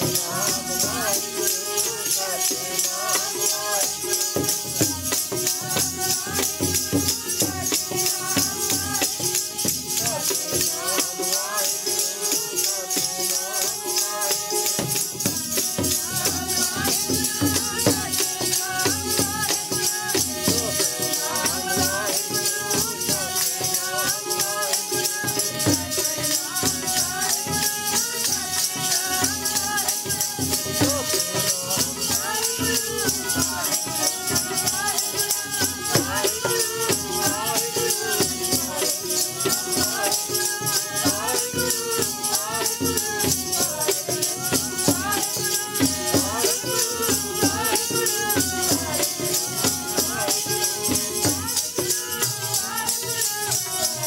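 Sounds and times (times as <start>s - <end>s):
hymns sung to a steady beat: 0.0s - 54.0s
jingling metal percussion: 0.0s - 54.0s.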